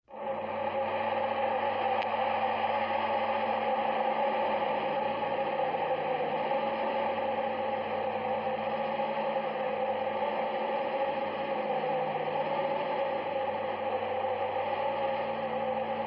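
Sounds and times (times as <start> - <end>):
low hum: 0.1 - 16.0.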